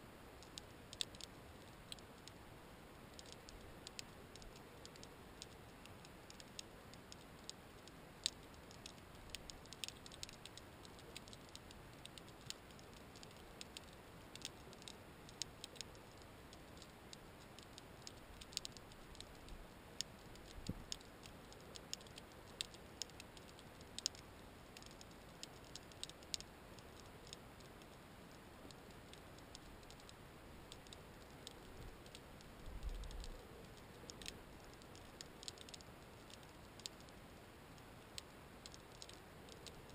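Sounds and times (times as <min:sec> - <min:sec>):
faint hiss: 0:00.0 - 0:39.9
underwater clicks and crackles: 0:00.4 - 0:02.4, 0:03.0 - 0:39.9.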